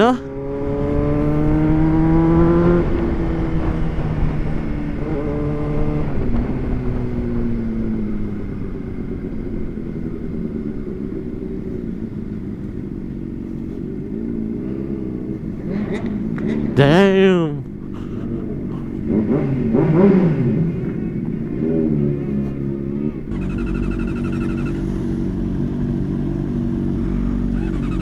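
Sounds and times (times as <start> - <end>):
motorcycle engine: 0.0 - 28.0
wind and road noise: 0.0 - 28.0.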